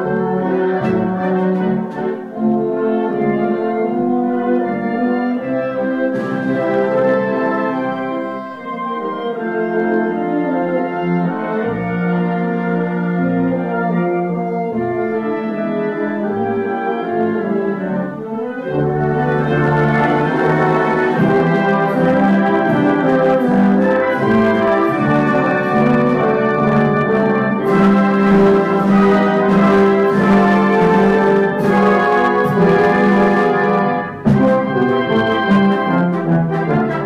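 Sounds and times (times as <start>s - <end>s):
wind band playing brass chords: 0.0s - 37.0s.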